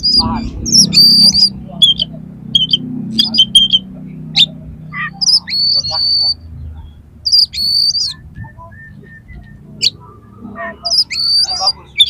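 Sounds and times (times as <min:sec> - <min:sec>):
bird singing whistles: 0:00.0 - 0:06.4, 0:07.3 - 0:12.0.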